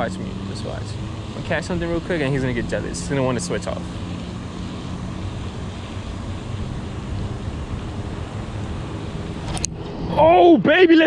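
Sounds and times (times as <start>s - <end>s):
wind noise on microphone: 1.0s - 10.3s.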